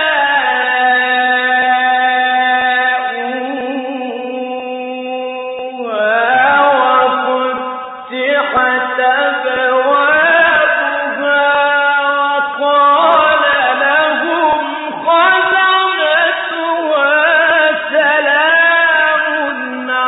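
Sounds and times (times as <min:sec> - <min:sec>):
man chanting melodic recitation: 0:00.0 - 0:20.0.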